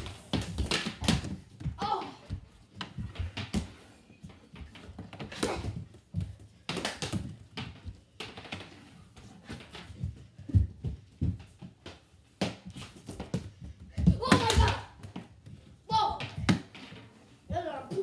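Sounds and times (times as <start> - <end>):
hockey sticks clacking on wooden floor: 0.0 - 18.0.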